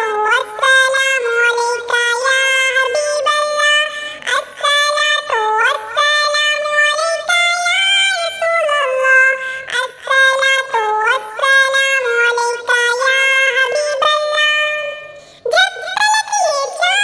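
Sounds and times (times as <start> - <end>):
synthetic voice singing: 0.0 - 17.0.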